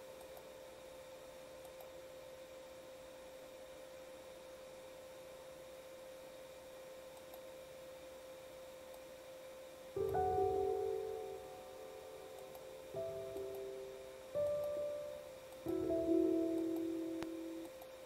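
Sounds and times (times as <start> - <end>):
faint steady tone: 0.0 - 18.0
low hiss: 0.0 - 18.0.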